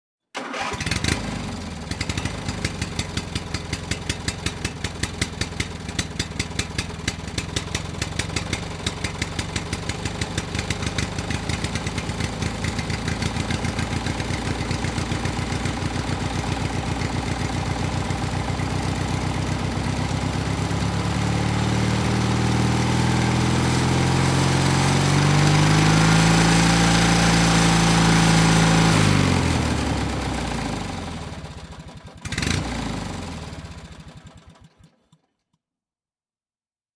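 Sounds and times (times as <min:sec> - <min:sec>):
two-stroke engine idling and revving: 0:00.4 - 0:34.9.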